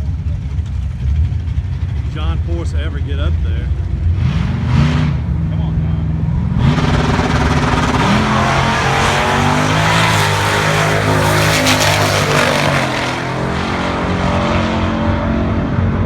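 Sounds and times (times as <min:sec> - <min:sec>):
drag racing car engine accelerating: 0:00.0 - 0:16.0.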